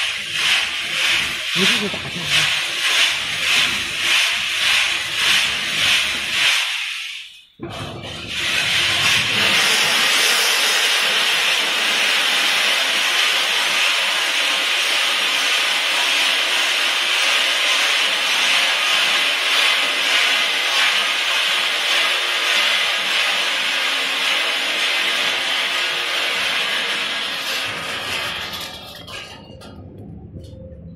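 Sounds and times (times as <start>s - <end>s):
roasted nuts pouring from drum: 0.0s - 7.3s, 8.3s - 29.0s.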